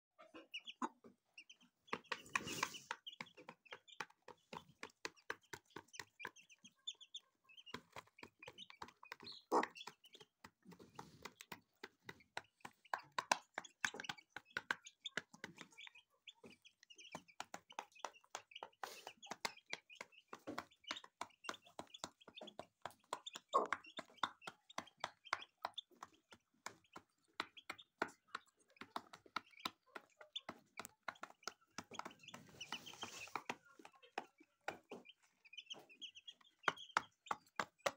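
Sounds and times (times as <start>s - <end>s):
chicks peeping: 0.2s - 37.9s
hen clucking: 0.2s - 37.9s
beaks tapping plastic feeder: 0.6s - 37.9s.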